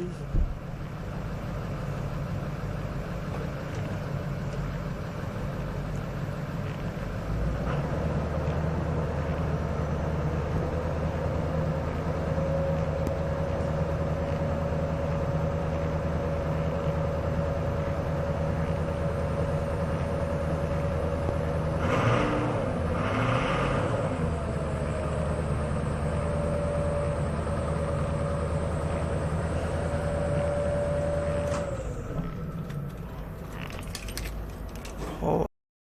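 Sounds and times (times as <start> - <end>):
diesel engine running: 0.0 - 35.5.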